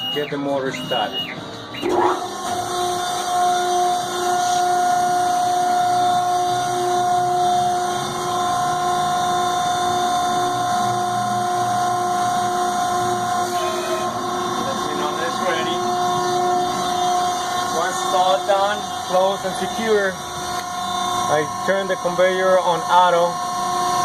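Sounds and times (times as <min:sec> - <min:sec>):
baler motor high-pitched whine: 0:00.7 - 0:24.0.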